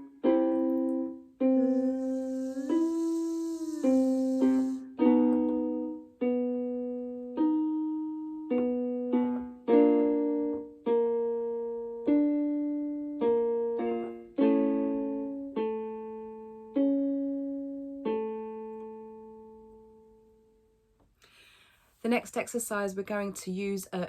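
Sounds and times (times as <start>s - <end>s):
keyboard piano notes: 0.0s - 20.4s.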